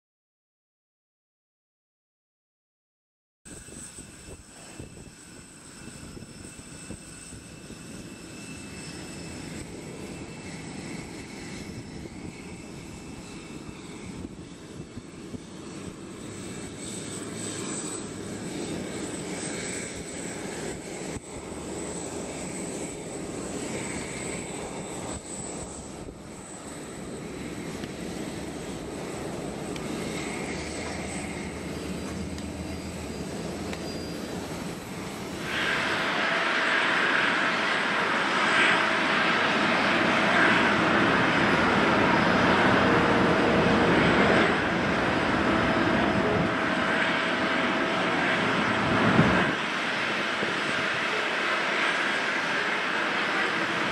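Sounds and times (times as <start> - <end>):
jet engines at taxi idle: 3.5 - 53.9.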